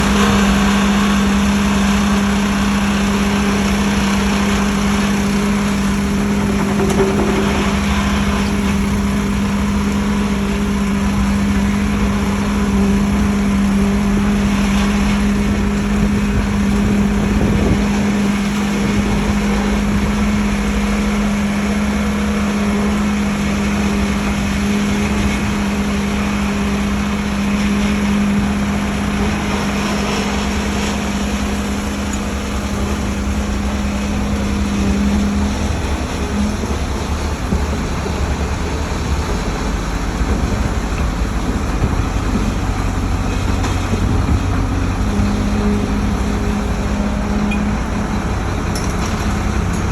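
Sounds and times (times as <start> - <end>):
construction site noise: 0.0 - 49.9
machinery engine humming: 0.0 - 49.9.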